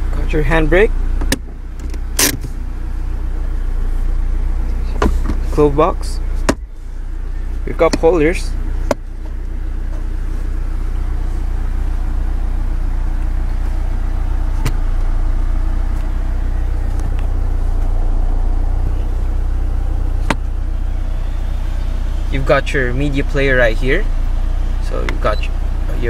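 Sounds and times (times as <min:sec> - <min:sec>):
low rumble in vehicle cabin: 0:00.0 - 0:26.0.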